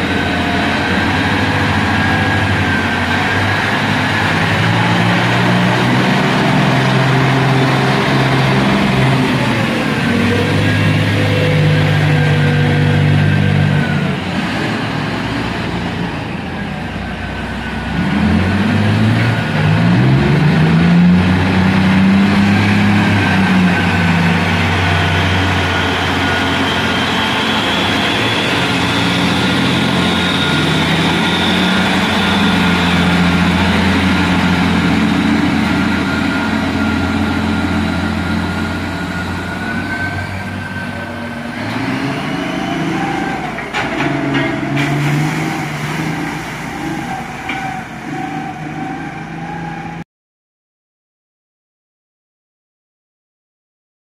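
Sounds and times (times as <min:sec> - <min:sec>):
diesel engine revving: 0:00.0 - 0:50.0.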